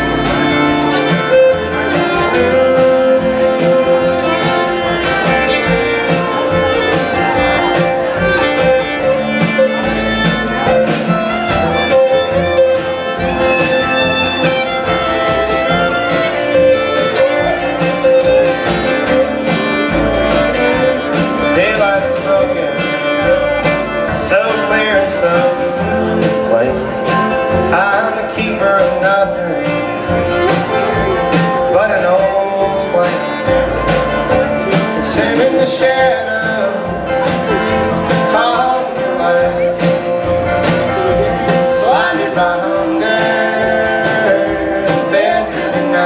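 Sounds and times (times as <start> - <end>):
electric guitar: 0.0 - 46.0
fiddle melody: 0.0 - 46.0
strummed acoustic guitar: 0.0 - 46.0
upright bass: 0.0 - 46.0.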